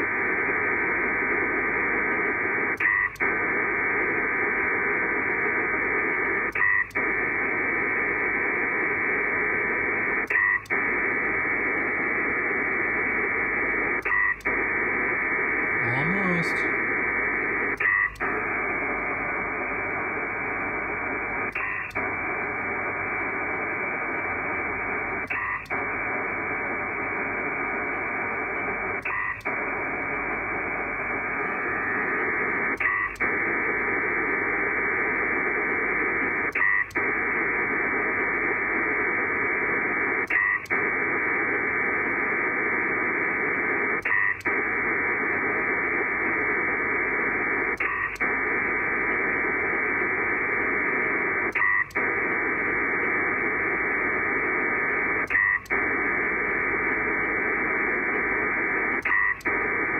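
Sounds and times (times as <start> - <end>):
data signal hiss: 0.0 - 59.9.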